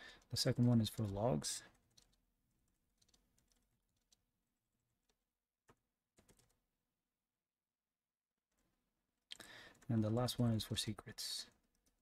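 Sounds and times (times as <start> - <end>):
faint keyboard typing: 0.1 - 6.7, 8.5 - 12.0.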